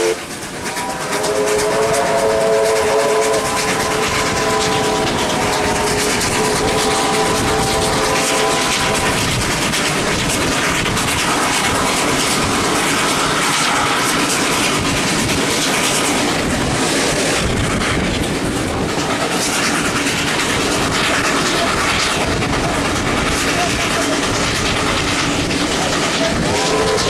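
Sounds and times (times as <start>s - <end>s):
train rail noise: 0.0s - 27.0s.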